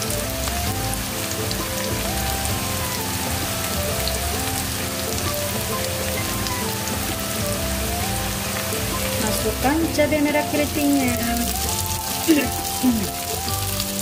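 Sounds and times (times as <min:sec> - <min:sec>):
shallots sizzling in oil: 0:00.0 - 0:14.0
soft background music: 0:00.0 - 0:14.0.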